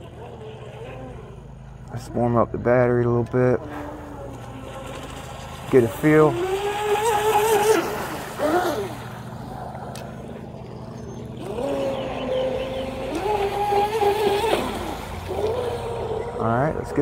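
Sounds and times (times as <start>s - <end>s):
electric boat motor whining: 0.0s - 17.0s.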